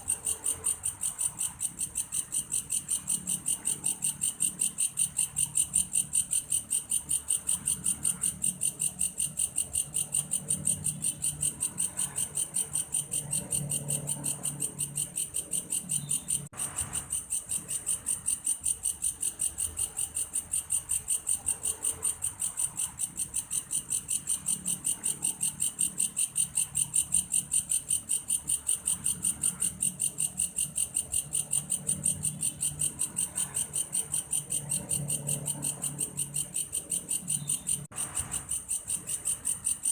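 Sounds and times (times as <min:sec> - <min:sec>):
grasshopper stridulating: 0:00.0 - 0:39.9.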